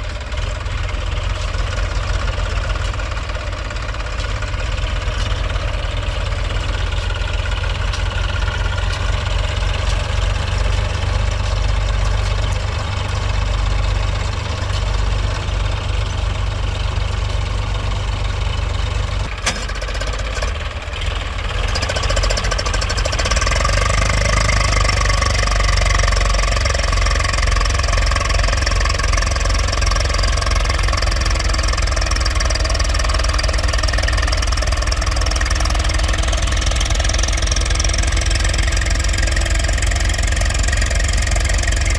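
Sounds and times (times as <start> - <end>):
tractor diesel engine rumbling: 0.0 - 41.9.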